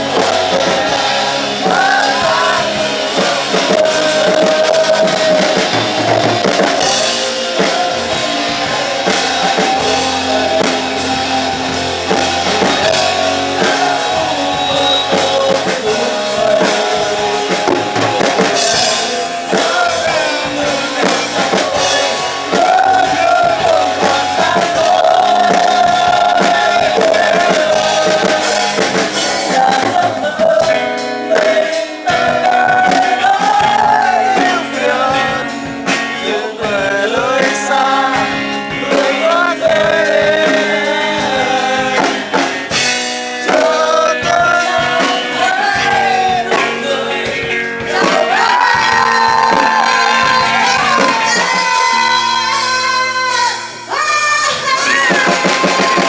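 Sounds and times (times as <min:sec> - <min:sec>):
rock song with vocals: 0:00.0 - 0:56.0.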